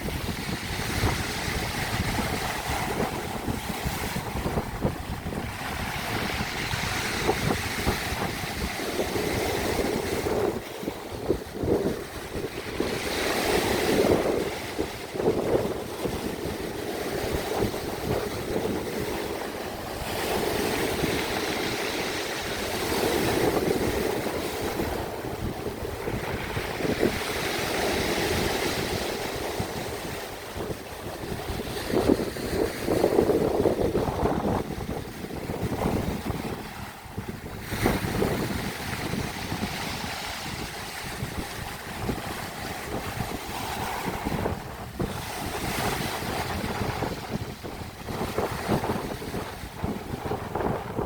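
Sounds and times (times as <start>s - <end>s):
sea waves washing in: 0.0s - 51.0s.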